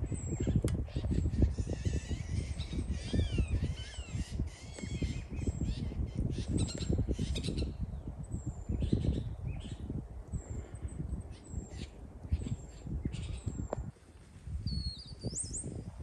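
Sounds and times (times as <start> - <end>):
low rumbling microphone noise: 0.0 - 16.0
birds calling: 0.1 - 13.6.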